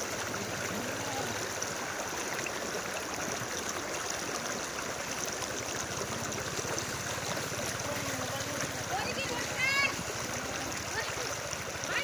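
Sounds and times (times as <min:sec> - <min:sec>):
water sloshing around wading legs: 0:00.0 - 0:12.0.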